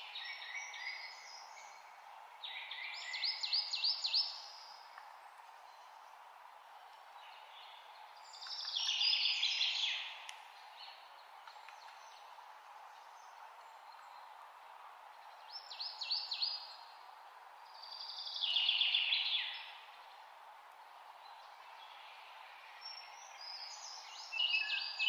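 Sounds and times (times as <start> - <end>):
background hiss: 0.0 - 25.0
songbird singing: 0.0 - 25.0.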